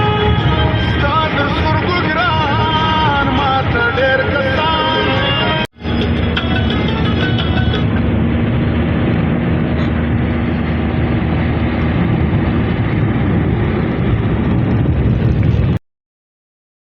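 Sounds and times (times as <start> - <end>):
car driving on road: 0.0 - 15.8.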